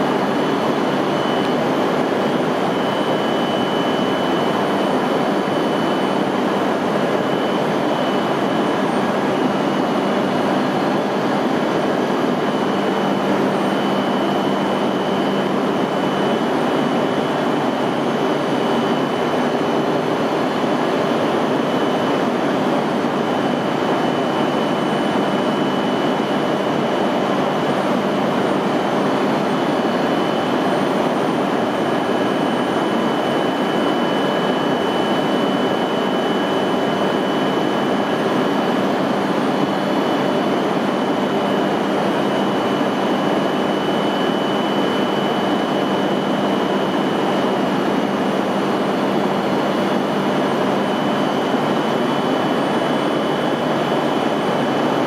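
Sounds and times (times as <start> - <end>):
faint high whine: 0.0 - 55.0.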